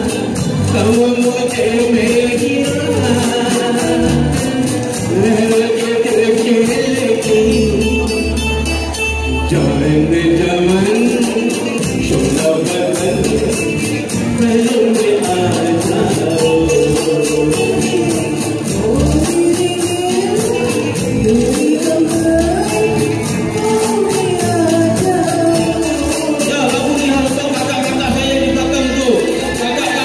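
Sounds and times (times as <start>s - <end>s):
band playing: 0.0s - 30.0s
high percussion beat: 0.0s - 30.0s
person singing live through microphone: 0.0s - 30.0s.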